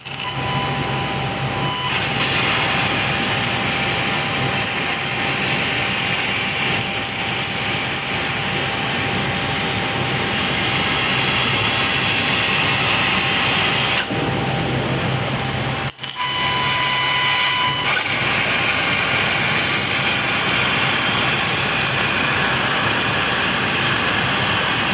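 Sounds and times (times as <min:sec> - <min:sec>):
laser cutter whirring and hissing: 0:00.0 - 0:24.9.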